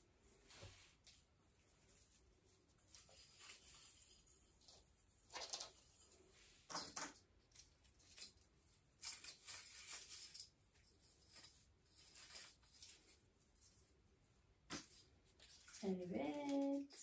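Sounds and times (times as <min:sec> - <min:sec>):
ornaments rustling and crinkling: 0:00.3 - 0:17.0.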